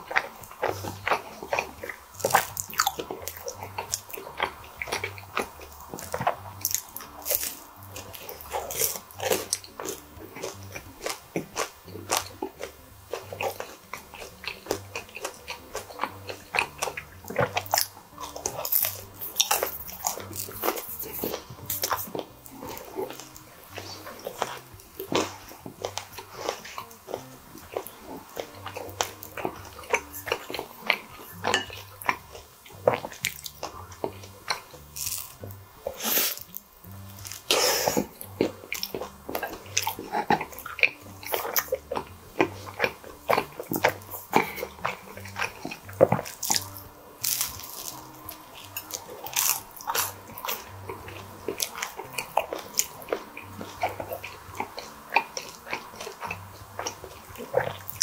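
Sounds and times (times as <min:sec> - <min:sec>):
crisp crackling bites and chewing: 0:00.0 - 0:58.0
faint background music: 0:00.0 - 0:58.0.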